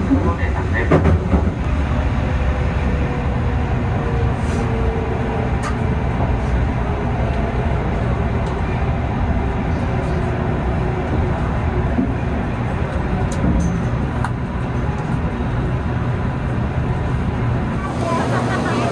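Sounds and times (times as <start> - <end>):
train wheels rumbling: 0.0 - 18.9.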